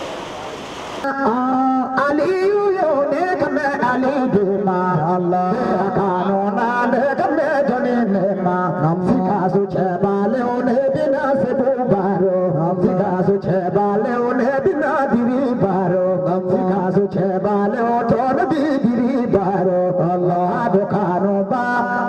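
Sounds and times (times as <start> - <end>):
person chanting: 1.0 - 22.0.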